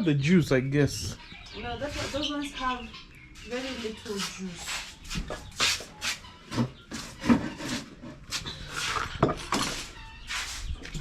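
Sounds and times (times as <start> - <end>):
leaves rubbing and scraping: 1.6 - 11.0.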